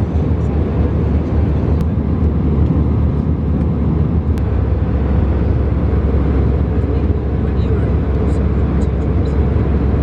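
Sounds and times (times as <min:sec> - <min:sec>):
jet engine cabin rumble: 0:00.0 - 0:10.0.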